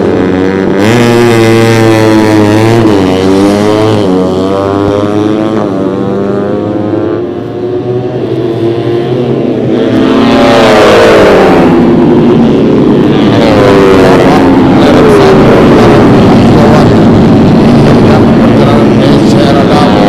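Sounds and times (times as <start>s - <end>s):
motorcycle engines revving by: 0.0s - 20.0s.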